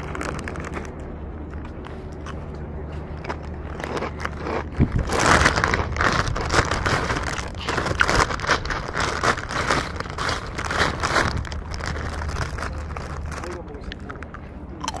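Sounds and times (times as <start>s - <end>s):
plastic snack bag crinkling: 0.0s - 2.4s, 3.1s - 15.0s.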